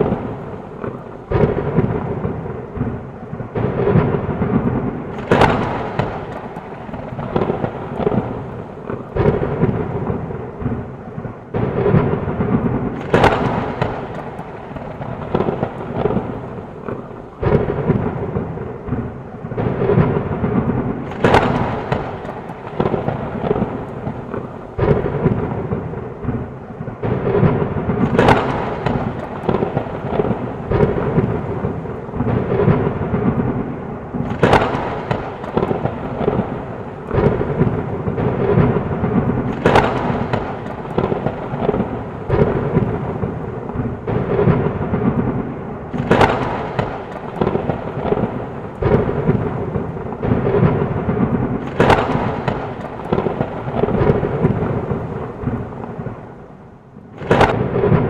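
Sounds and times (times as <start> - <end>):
sharp thunder cracks: 0.0 - 56.5, 57.2 - 58.0
heavy rain: 0.0 - 58.0
rolling thunder: 0.0 - 58.0.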